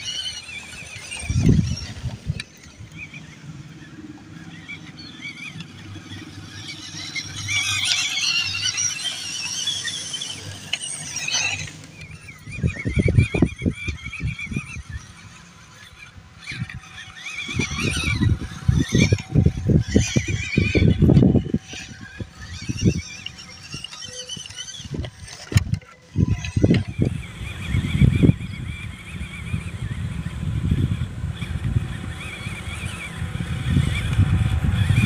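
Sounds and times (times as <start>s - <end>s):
rc truck motors whining: 0.0s - 35.0s.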